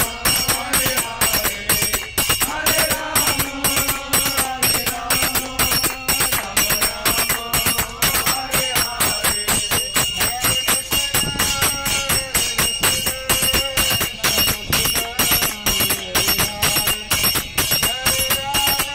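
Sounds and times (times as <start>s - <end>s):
brass hand cymbals: 0.0s - 18.9s
hand clapping: 0.0s - 18.9s
man chanting into a microphone: 0.0s - 18.9s.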